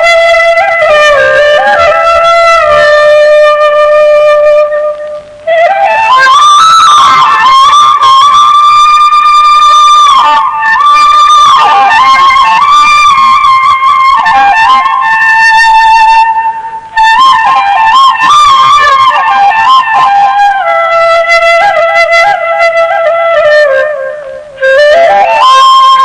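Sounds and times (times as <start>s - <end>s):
solo flute melody: 0.0s - 26.0s.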